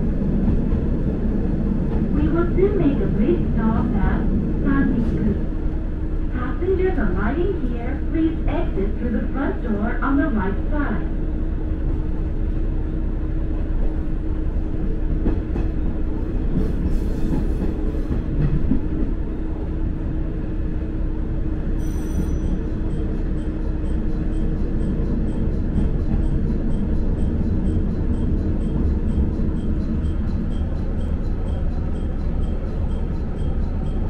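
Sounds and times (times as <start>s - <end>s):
railcar engine and wheels rumbling: 0.0s - 34.0s.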